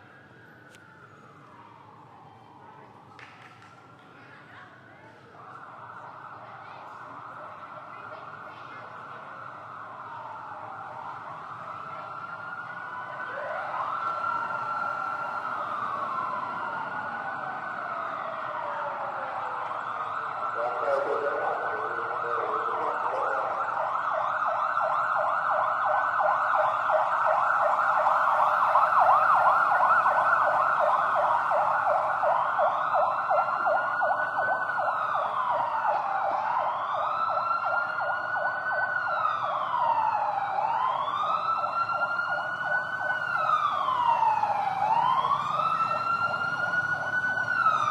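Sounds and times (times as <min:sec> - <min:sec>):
emergency vehicle siren: 0:00.0 - 0:47.9.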